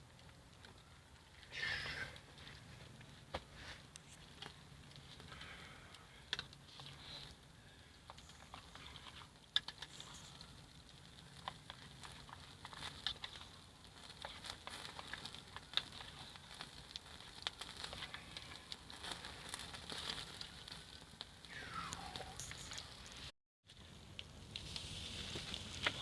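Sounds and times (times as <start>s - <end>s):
campfire crackling and popping: 0.0s - 26.0s
fire hissing: 1.4s - 23.3s, 23.9s - 26.0s.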